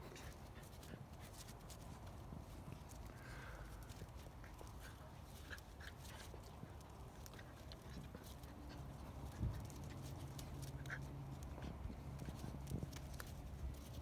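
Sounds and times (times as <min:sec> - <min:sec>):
puppies scuffling: 0:00.0 - 0:14.0.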